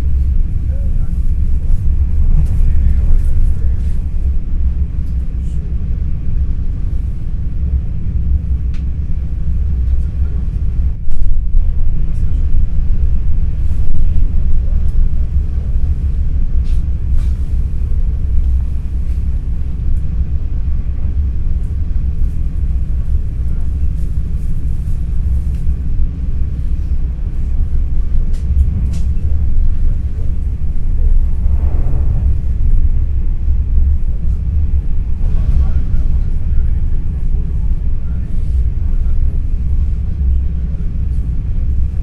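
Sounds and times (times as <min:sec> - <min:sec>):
faint passenger voices: 0:00.0 - 0:42.0
train cabin low rumble: 0:00.0 - 0:42.0.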